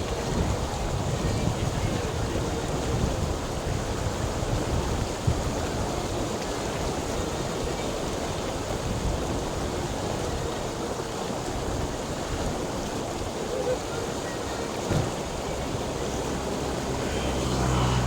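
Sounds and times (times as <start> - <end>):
water rushing with low rumble: 0.0 - 18.0.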